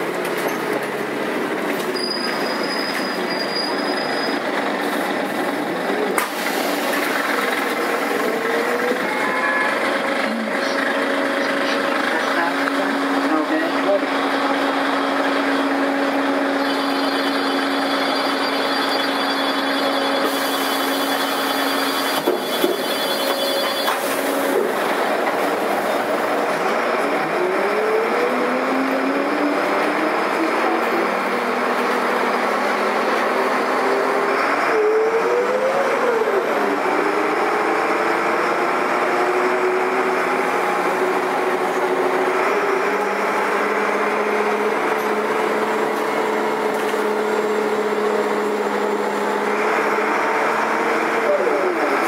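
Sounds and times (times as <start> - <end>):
bus diesel engine accelerating: 0.0 - 52.0.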